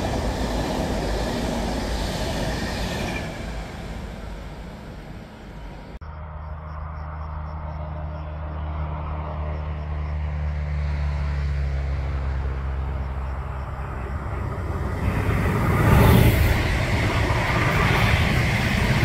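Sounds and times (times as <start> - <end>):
train approaching: 0.0 - 19.0.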